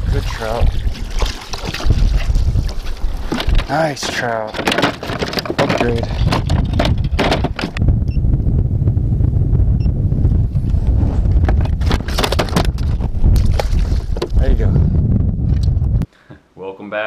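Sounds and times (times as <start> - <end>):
wind on microphone: 0.0 - 16.1.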